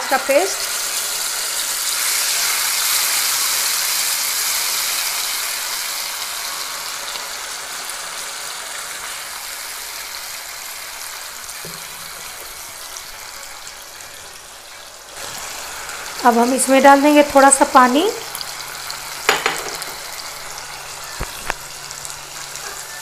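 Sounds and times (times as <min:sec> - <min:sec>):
onion paste sizzling in oil: 0:00.0 - 0:23.0.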